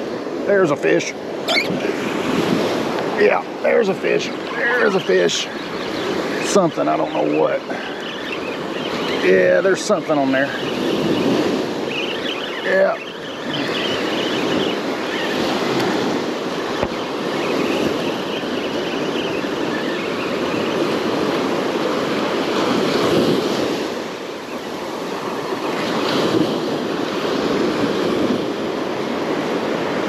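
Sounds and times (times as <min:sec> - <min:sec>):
ocean surf breaking: 0:00.0 - 0:30.0
wind on microphone: 0:00.0 - 0:30.0.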